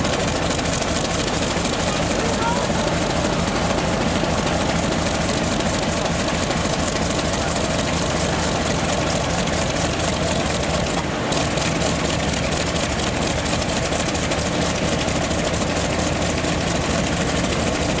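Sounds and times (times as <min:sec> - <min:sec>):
radial aircraft engine running: 0:00.0 - 0:18.0.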